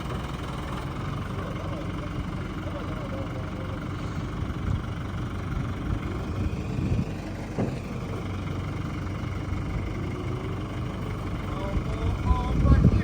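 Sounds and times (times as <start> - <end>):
machinery engine running: 0.0 - 13.0.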